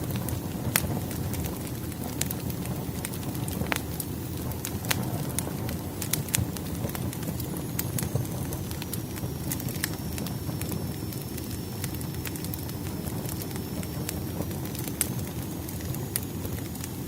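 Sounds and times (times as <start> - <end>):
firewood crackling and popping: 0.0 - 17.0
low rumble of flame: 0.0 - 17.0.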